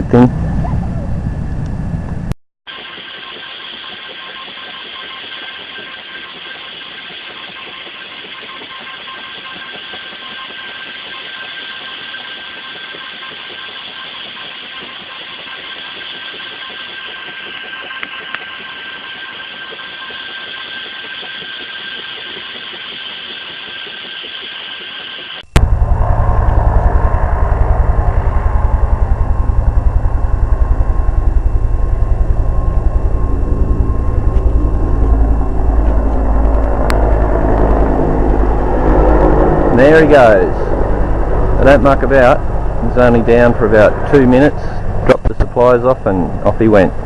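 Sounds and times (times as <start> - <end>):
faint constant whine: 0.0 - 47.0
helicopter turbine rush: 0.0 - 47.0.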